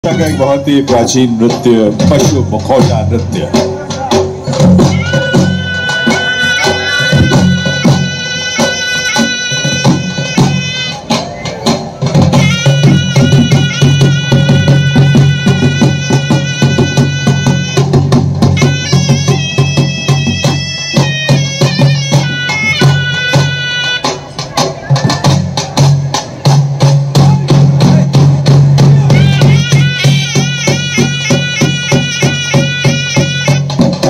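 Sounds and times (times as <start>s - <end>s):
reedy wind instrument melody: 0.0s - 1.3s, 2.8s - 34.0s
drums beating: 0.0s - 34.0s.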